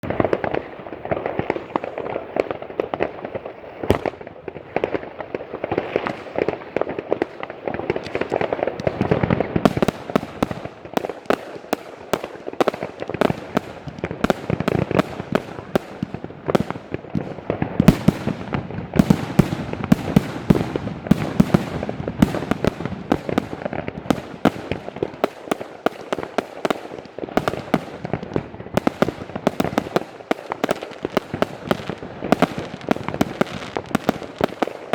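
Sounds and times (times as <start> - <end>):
fireworks shots and bursts: 0.0 - 34.9.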